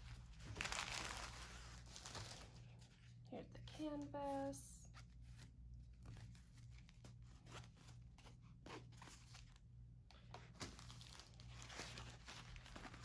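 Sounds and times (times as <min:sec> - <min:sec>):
ribbon rustling and crinkling: 0:00.0 - 0:03.2, 0:04.2 - 0:13.0.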